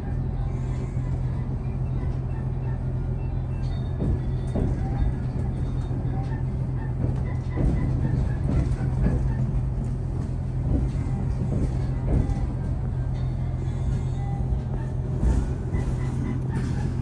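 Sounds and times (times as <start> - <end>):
train hum and rumble: 0.0 - 17.0.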